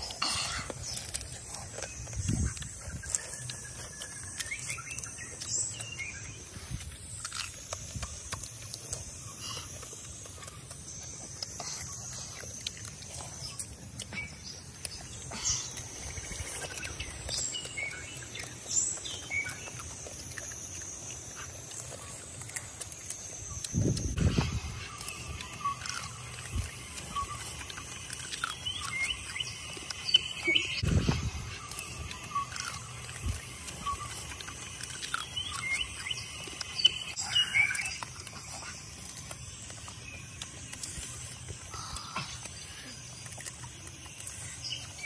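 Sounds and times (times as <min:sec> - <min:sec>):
crab shells cracking: 0:00.0 - 0:30.9, 0:31.5 - 0:45.0
wet munching: 0:00.0 - 0:45.0.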